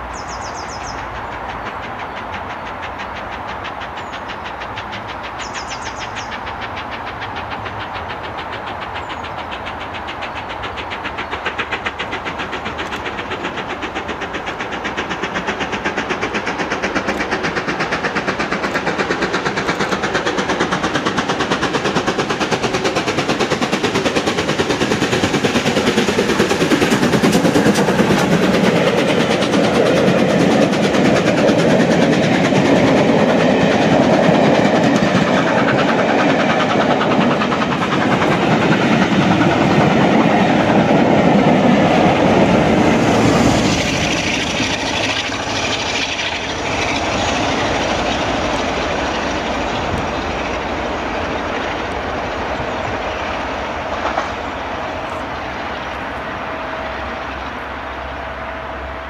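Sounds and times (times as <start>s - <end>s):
steam locomotive exhaust beating: 0.0s - 59.0s
train wheels rumbling over rails: 0.0s - 59.0s.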